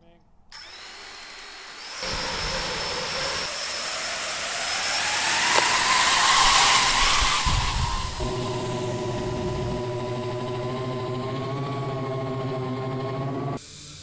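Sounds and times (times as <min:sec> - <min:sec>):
drone propeller hum: 0:00.6 - 0:13.6.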